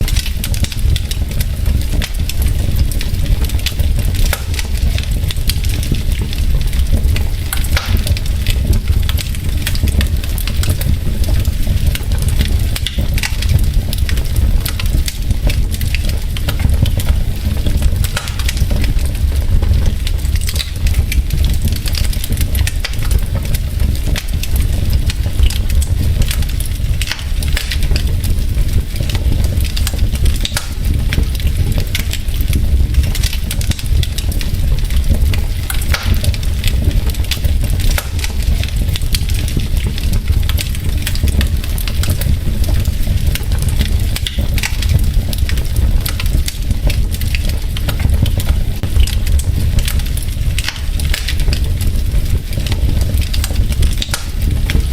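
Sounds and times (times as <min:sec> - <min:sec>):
low fire rumble: 0:00.0 - 0:54.9
wood fire crackling: 0:00.0 - 0:54.9.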